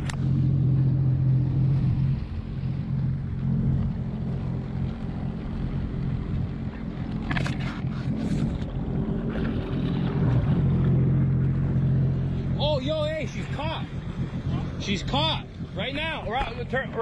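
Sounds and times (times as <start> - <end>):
jet ski engine humming: 0.0 - 17.0
water sloshing against hull: 0.0 - 17.0.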